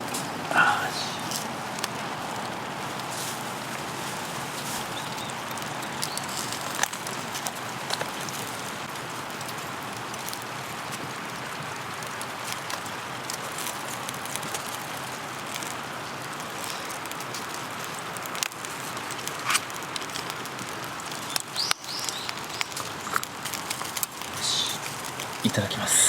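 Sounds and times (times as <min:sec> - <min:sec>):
rain hiss: 0:00.0 - 0:26.0.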